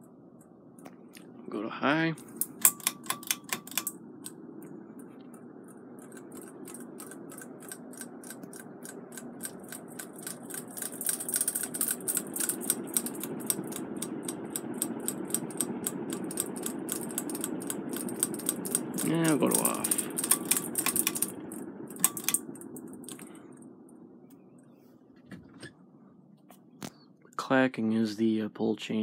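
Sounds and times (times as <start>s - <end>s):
ceiling fan motor and blades: 0.0s - 29.0s.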